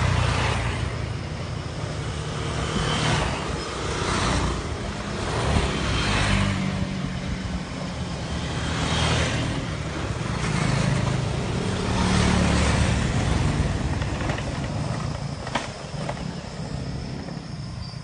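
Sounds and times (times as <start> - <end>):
motorcycles passing by: 0.0 - 17.2.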